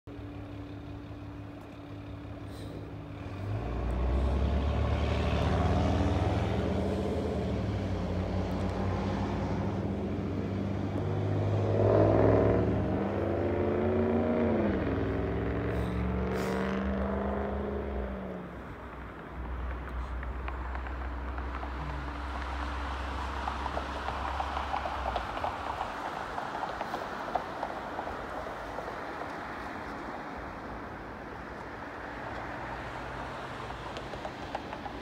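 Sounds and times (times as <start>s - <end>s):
road vehicle engine and tyres: 0.0s - 35.0s
vehicle passing by: 2.5s - 35.0s.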